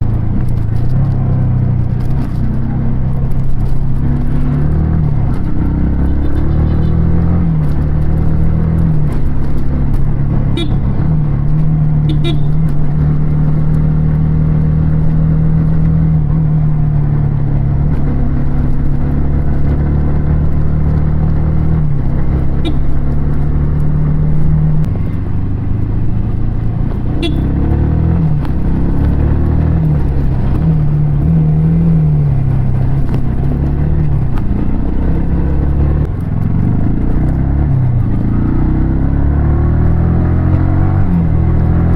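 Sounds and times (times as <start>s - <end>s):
motorcycle engine and exhaust: 0.0s - 41.9s.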